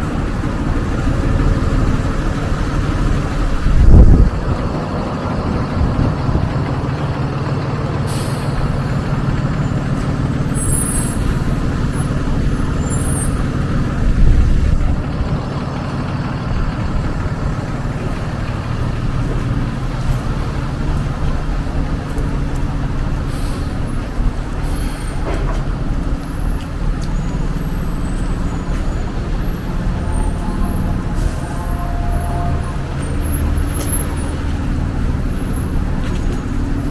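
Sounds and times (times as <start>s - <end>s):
heavy vehicle engine rumbling: 0.0s - 36.9s
street traffic: 0.0s - 36.9s.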